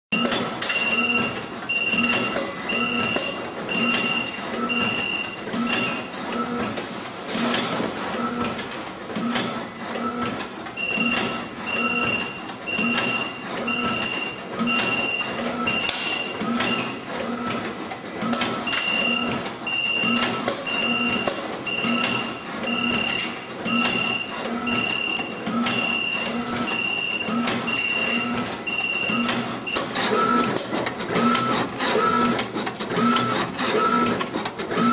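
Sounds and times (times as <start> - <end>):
machine rhythmic clatter: 0.2 - 34.9.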